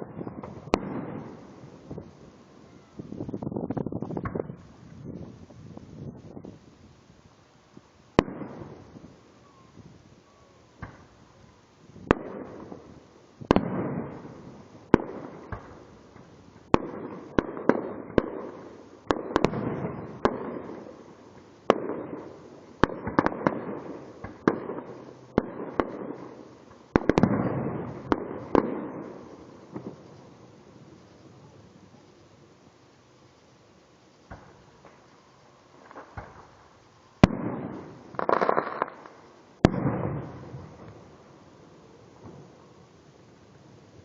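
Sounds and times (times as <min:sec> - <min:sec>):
fireworks booming and crackling: 0:00.0 - 0:06.8, 0:08.1 - 0:32.8, 0:34.2 - 0:44.0.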